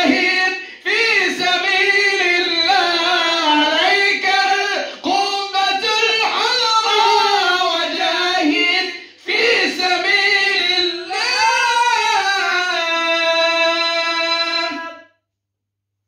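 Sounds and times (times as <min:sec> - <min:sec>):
man chanting into microphone: 0:00.0 - 0:15.1.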